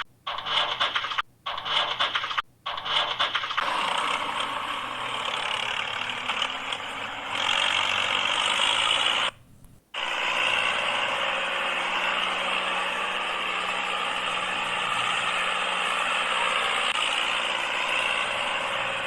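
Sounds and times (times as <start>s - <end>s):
small machine rattling and scraping: 0.0s - 9.3s, 10.0s - 19.0s.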